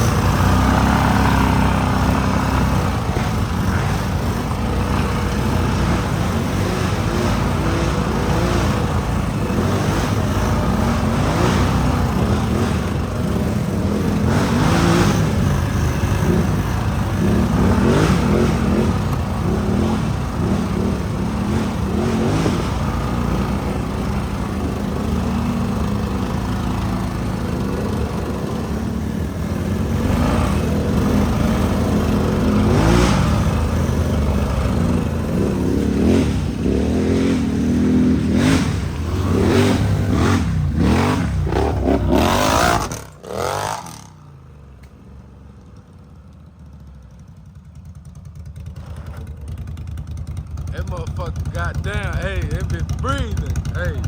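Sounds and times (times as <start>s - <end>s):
atv engines revving: 0.0s - 54.0s.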